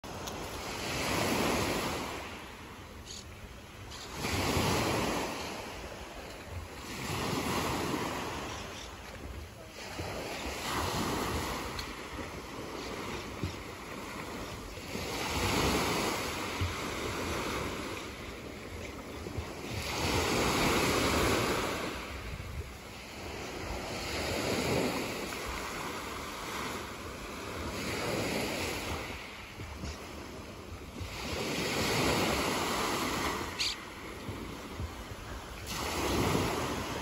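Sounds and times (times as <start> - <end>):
waves washing up shingle beach: 0.0 - 37.0.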